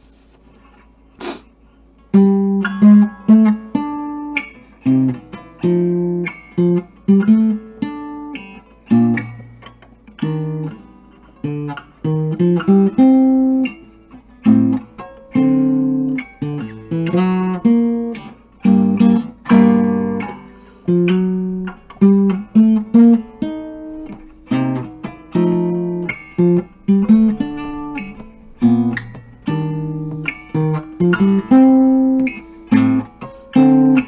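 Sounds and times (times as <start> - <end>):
acoustic guitar chords ringing: 2.0 - 34.0.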